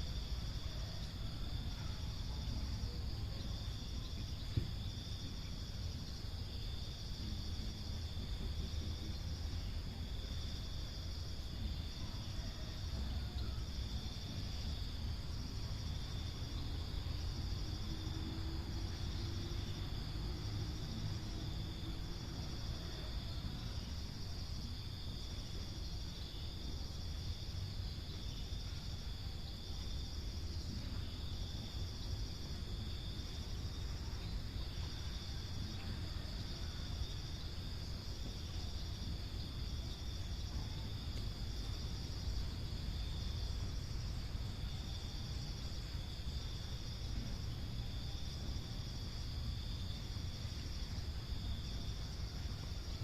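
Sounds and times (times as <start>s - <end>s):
insects chirring: 0.0s - 53.0s
low steady rumble: 0.0s - 53.0s.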